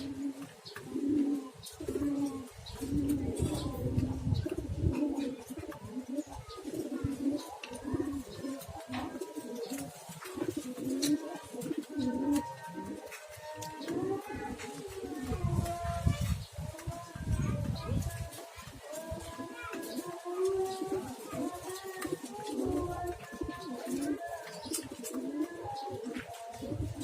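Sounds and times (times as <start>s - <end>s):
pigeon cooing: 0.0s - 27.0s.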